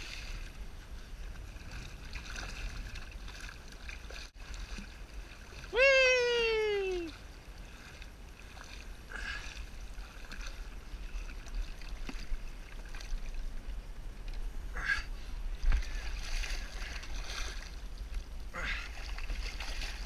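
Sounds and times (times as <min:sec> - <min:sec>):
water sloshing against kayak hull: 0:00.0 - 0:05.8, 0:06.5 - 0:20.0
wind rumble on microphone: 0:00.0 - 0:20.0.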